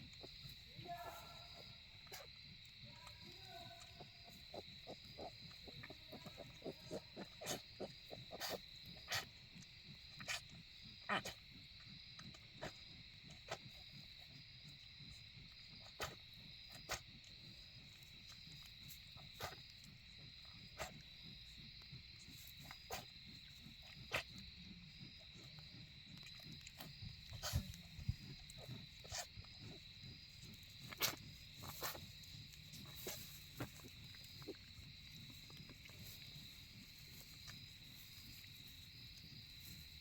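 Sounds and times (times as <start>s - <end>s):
pig grunting softly: 0.0s - 40.0s.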